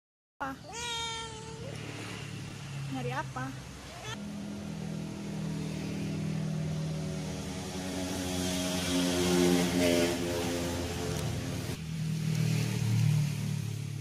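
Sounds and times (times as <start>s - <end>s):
steady engine drone: 1.8s - 14.0s.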